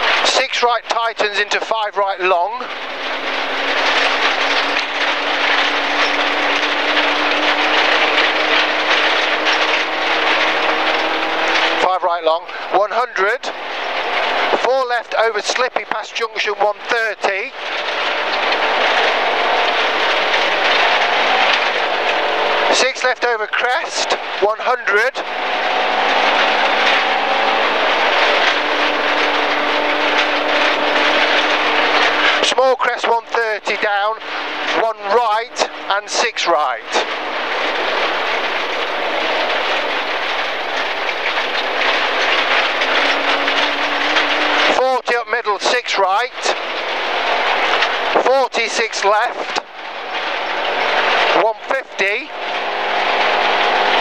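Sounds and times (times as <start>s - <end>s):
car engine running hard: 0.0s - 54.0s
tyres and stones on wet gravel: 0.0s - 54.0s.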